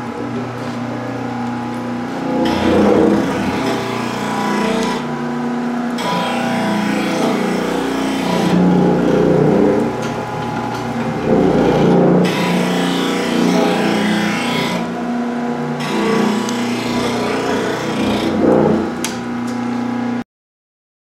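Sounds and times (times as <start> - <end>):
knife grinder motor: 1.7 - 19.6
grinding metal: 1.9 - 19.4.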